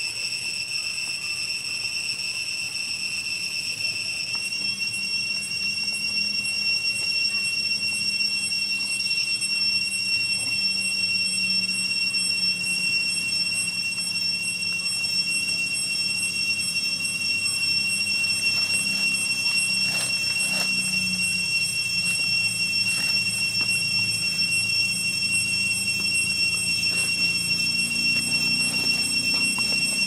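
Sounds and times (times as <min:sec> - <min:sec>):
cicadas singing: 0:00.0 - 0:30.0.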